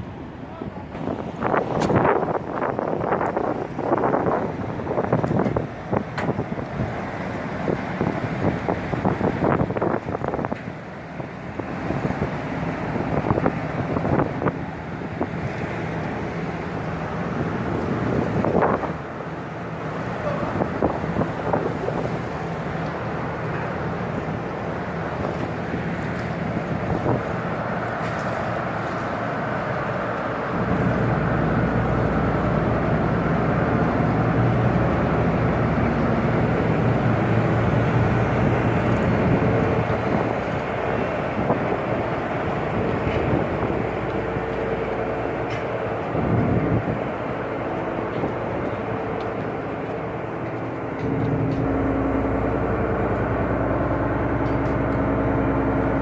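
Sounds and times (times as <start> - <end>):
machinery rumble with low hum: 0.0 - 56.0.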